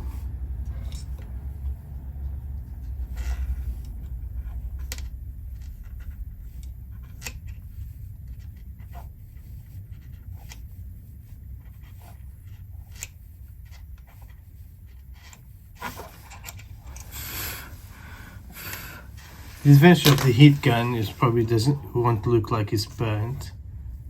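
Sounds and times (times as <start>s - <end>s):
lighter flame rumble: 0.0s - 22.0s
handling noises: 0.0s - 24.0s.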